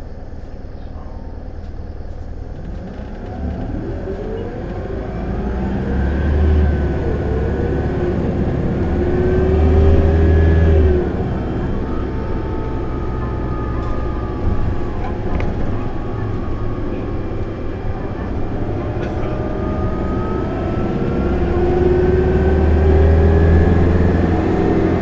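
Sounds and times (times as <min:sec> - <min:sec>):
bus diesel engine pulling hard: 0:00.0 - 0:25.0.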